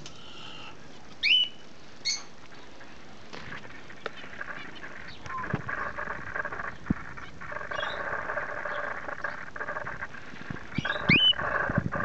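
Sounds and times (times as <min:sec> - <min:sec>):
birds chattering: 0:00.0 - 0:12.0.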